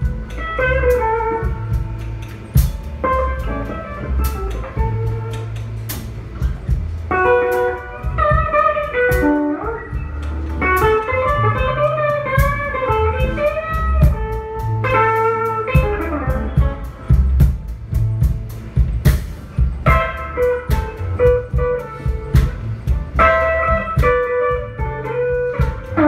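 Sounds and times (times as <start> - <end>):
bass guitar: 0.0 - 26.0
drum kit: 0.0 - 26.0
electric guitar lead with bent notes: 0.0 - 26.0.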